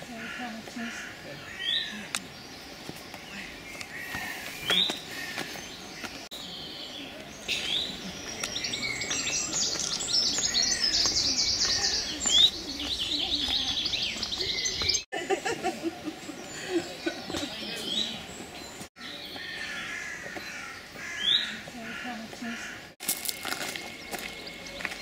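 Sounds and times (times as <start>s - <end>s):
small songbirds chirping: 0.1s - 15.1s, 16.1s - 25.0s.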